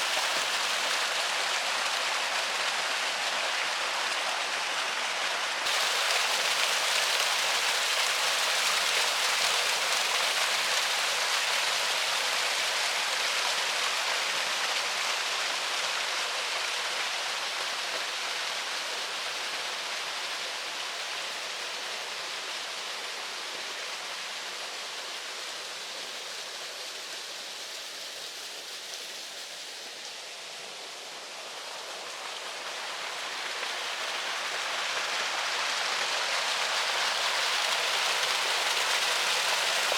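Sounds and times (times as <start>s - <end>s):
river water rushing: 0.0s - 27.9s, 28.6s - 39.9s.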